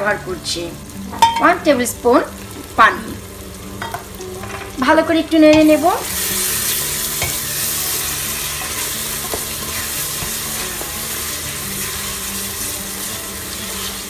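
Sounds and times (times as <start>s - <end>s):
masala sizzling in hot oil: 0.0s - 14.0s.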